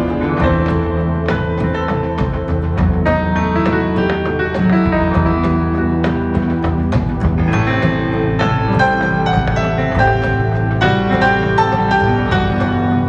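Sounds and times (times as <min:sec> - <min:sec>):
recorded music with piano and drums: 0:00.0 - 0:13.0.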